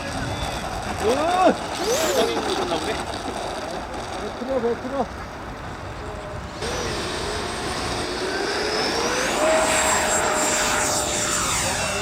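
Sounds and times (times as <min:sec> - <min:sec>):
model jet fan whine: 0:00.0 - 0:12.0.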